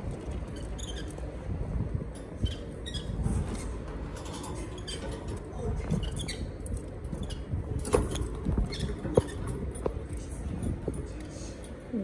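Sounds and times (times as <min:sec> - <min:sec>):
claws and beaks tapping and scratching: 0:00.0 - 0:11.8.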